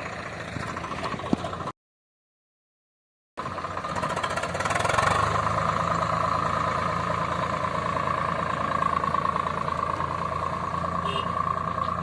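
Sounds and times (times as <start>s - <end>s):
diesel tractor engine: 0.0s - 1.8s, 3.4s - 12.0s.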